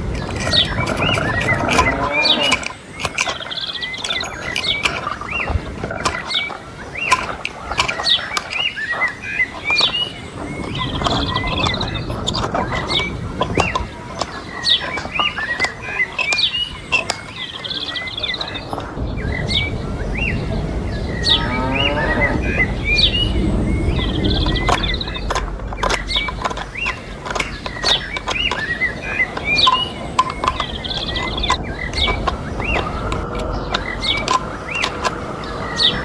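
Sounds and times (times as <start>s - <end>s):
sharp clicks: 0.0s - 19.0s, 24.0s - 36.0s
small birds chirping: 0.0s - 36.0s.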